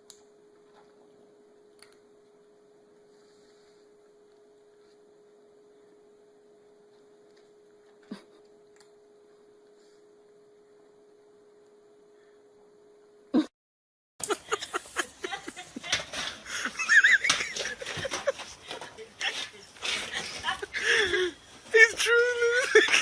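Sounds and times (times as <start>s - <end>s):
faint steady hum: 0.0s - 13.5s, 14.2s - 23.0s.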